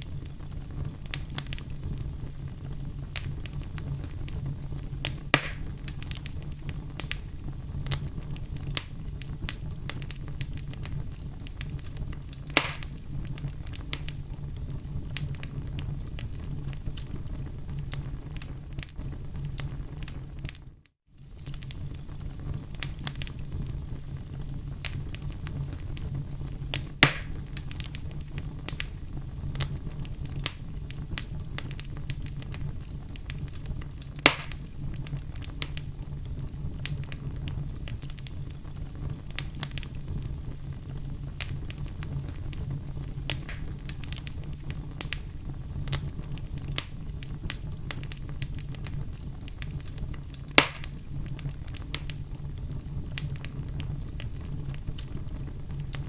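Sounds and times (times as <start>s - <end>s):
fire crackling: 0.0s - 56.0s
loud fire pops: 0.0s - 56.0s
low rumble of flames: 0.0s - 56.0s.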